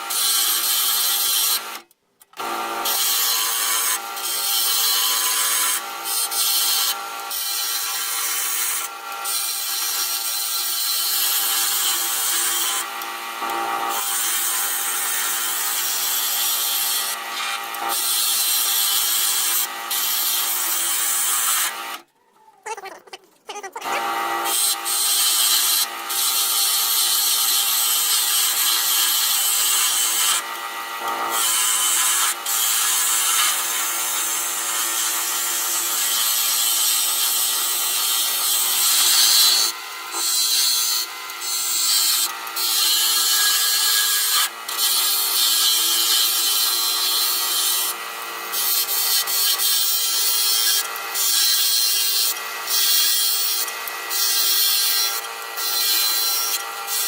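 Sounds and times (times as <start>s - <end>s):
chisel cutting wood on lathe: 2.4s - 22.0s, 23.8s - 57.0s.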